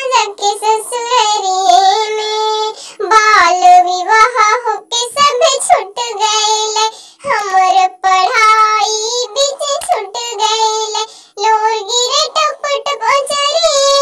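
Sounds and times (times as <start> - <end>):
high-pitched cartoon voice singing: 0.0 - 14.0.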